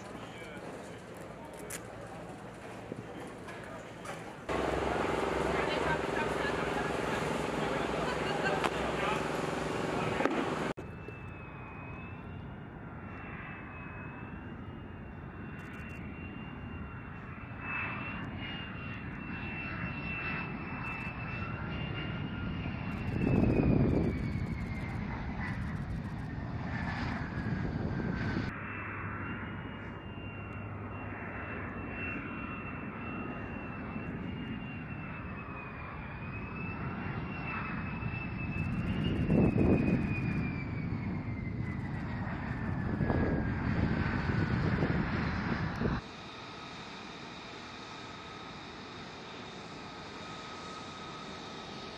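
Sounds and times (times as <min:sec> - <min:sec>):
jet engine whine: 0:00.0 - 0:51.9
jet roar: 0:00.0 - 0:51.9.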